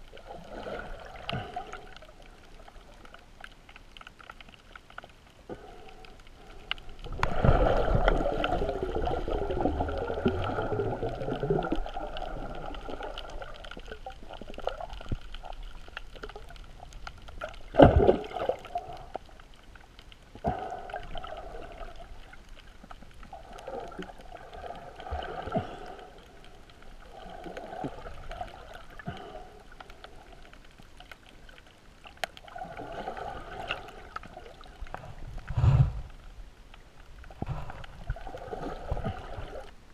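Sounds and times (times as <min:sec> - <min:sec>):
muffled water rushing and sloshing: 0:00.0 - 0:39.9.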